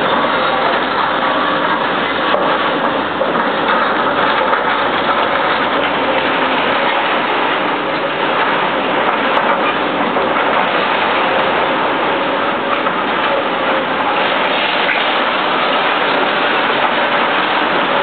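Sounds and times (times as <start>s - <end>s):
heavy diesel engines running: 0.0s - 18.0s.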